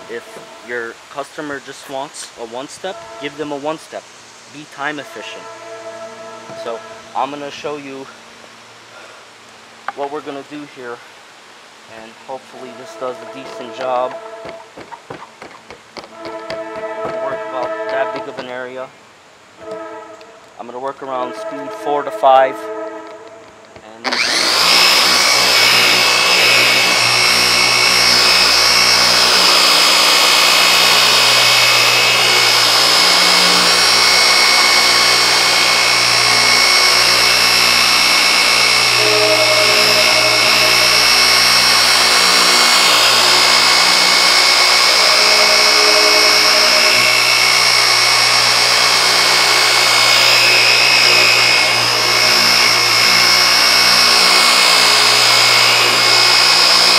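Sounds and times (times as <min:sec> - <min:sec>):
polisher motor whine: 0:00.0 - 0:01.1, 0:02.5 - 0:04.0, 0:04.8 - 0:07.9, 0:12.4 - 0:18.8, 0:21.3 - 0:56.9.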